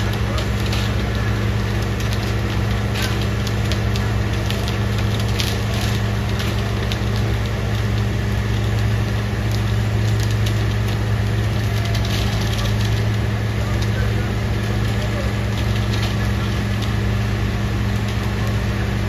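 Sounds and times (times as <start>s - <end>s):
crackling clicks and rattles: 0.0s - 19.0s
truck engine humming: 0.0s - 19.0s.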